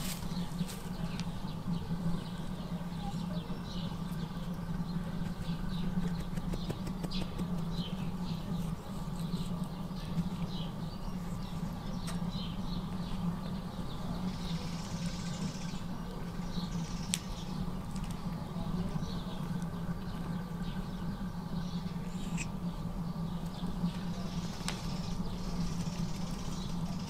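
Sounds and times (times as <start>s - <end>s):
small birds chirping: 0.0s - 27.0s
steady low hum: 0.0s - 27.0s.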